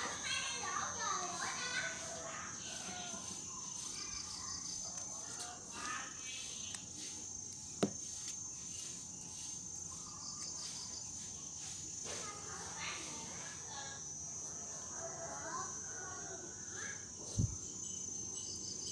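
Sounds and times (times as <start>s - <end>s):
insects chirring: 0.0s - 18.9s.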